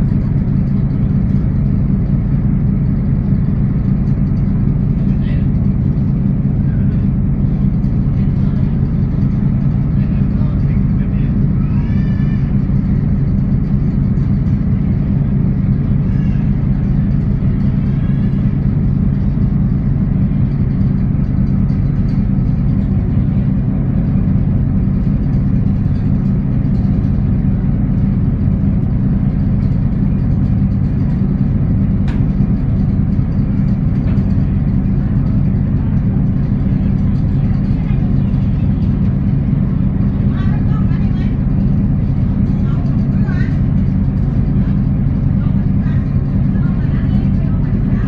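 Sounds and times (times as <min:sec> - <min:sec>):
ferry engine droning: 0:00.0 - 0:48.0.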